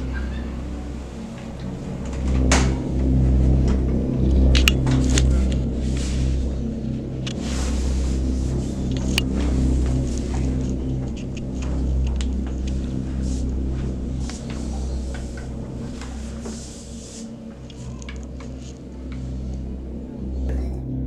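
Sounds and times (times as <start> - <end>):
background music low held notes: 0.0 - 21.0.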